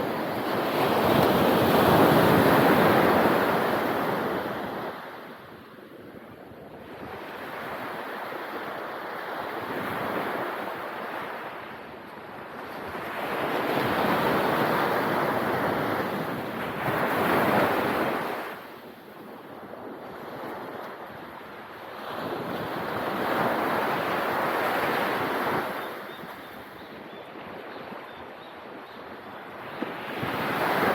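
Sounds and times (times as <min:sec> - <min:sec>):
wind rumble on microphone: 0:00.0 - 0:30.9.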